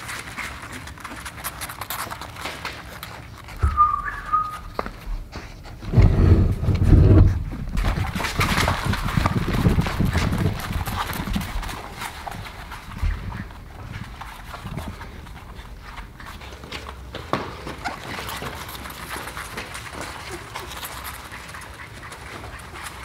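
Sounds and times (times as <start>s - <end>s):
puppy claws clicking on floor: 0.0s - 5.8s, 7.5s - 23.0s.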